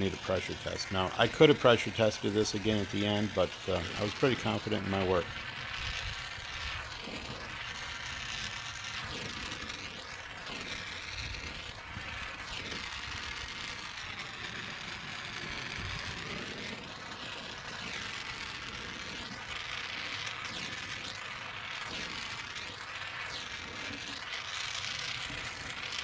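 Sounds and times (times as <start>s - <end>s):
gas torch hissing: 0.0s - 26.0s.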